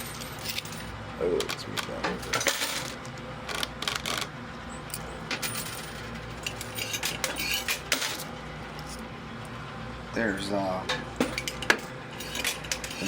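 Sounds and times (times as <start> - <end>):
coins clinking: 0.0 - 9.0, 11.2 - 13.0
machine low hum: 0.0 - 13.0.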